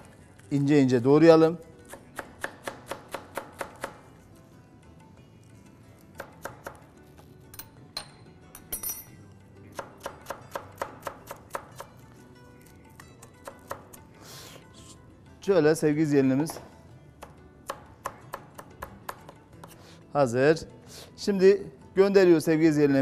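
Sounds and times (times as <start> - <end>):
faint background music: 0.0 - 23.0.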